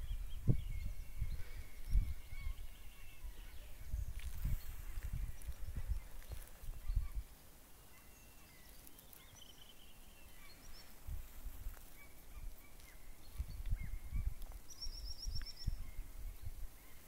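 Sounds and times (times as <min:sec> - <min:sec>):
wind buffeting the microphone: 0:00.0 - 0:07.4, 0:10.3 - 0:17.0
small birds calling: 0:00.0 - 0:17.0.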